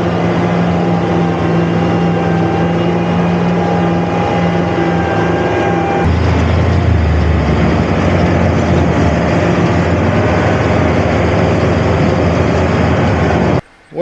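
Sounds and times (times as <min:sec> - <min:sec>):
heavy farm machinery engine drone: 0:00.0 - 0:14.0.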